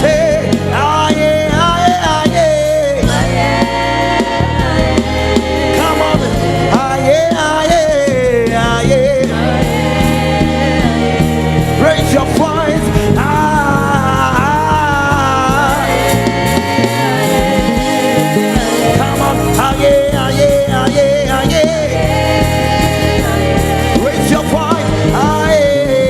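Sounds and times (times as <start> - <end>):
band accompaniment with bass: 0.0 - 26.0
voices singing gospel: 0.0 - 26.0.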